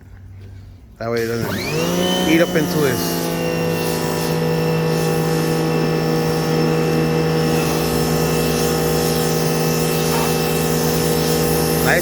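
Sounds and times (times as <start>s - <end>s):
pressure washer motor hum: 1.1s - 12.0s
water jet hissing: 1.8s - 12.0s.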